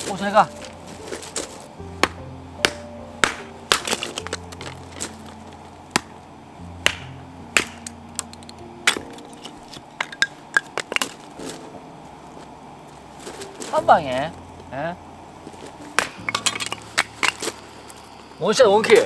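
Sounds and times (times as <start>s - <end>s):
firewood cracking and snapping: 0.0s - 14.7s, 15.5s - 18.2s.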